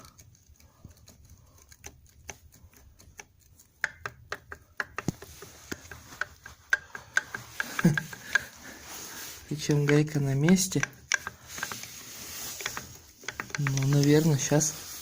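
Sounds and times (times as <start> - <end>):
metal parts clicking and knocking: 0.0 - 15.0.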